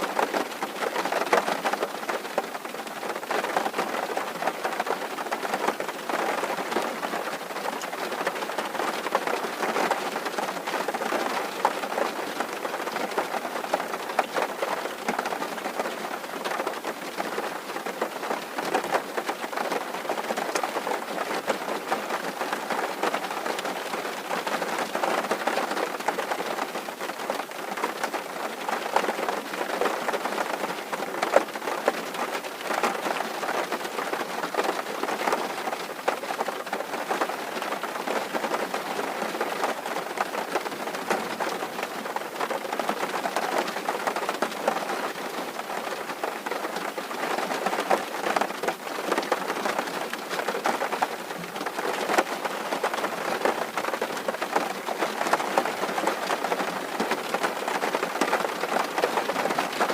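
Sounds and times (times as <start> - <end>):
rain drumming on a tin roof: 0.0 - 59.9.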